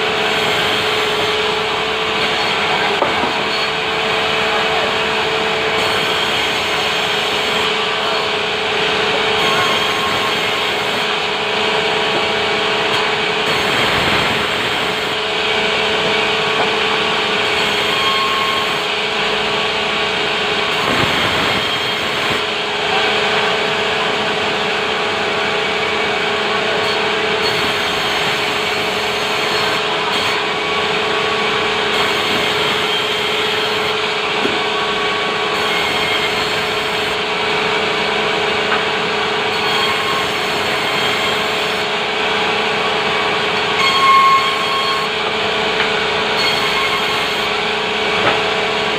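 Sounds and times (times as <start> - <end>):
sawmill saw cutting: 0.0 - 48.9.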